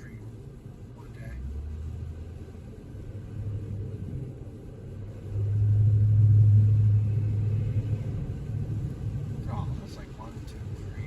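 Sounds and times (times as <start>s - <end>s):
road rumble inside moving car: 0.0s - 11.0s.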